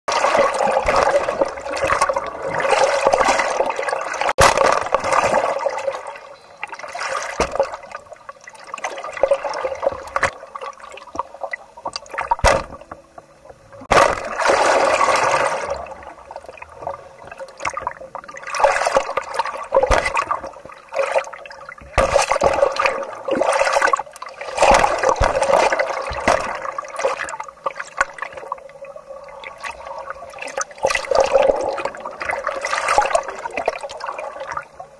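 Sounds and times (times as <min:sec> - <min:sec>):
water sloshing and gurgling: 0:00.1 - 0:34.9.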